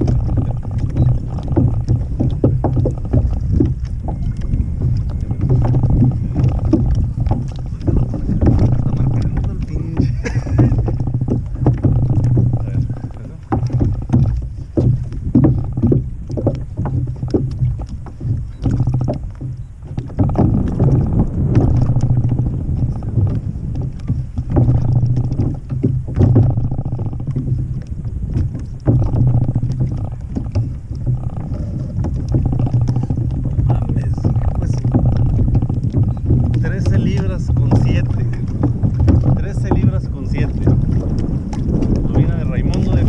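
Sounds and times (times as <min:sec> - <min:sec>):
scattered knocks: 0:00.0 - 0:43.0
water lapping against hull: 0:00.0 - 0:43.0
wind rumbling on microphone: 0:00.0 - 0:43.0.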